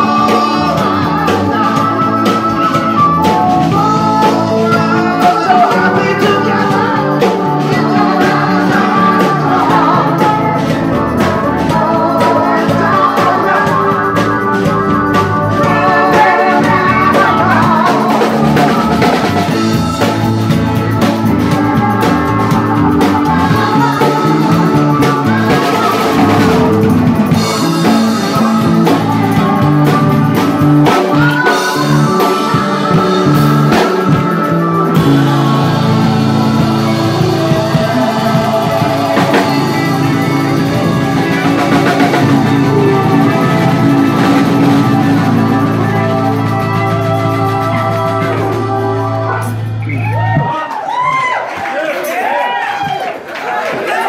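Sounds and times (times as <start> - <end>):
electric bass: 0.0 - 50.6
drum kit: 0.0 - 51.4
keyboard: 0.0 - 52.6.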